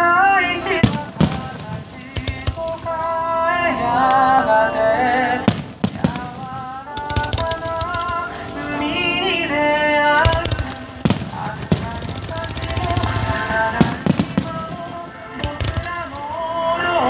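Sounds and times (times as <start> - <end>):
fireworks bangs: 0.0 - 4.4, 5.2 - 17.0
fireworks crackling: 0.0 - 17.0
music with singing: 0.0 - 17.0.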